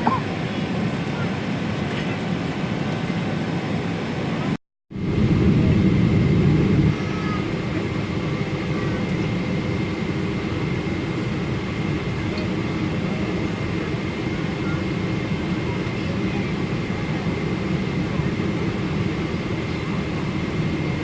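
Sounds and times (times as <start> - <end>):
airliner cabin engine rush: 0.0 - 21.0.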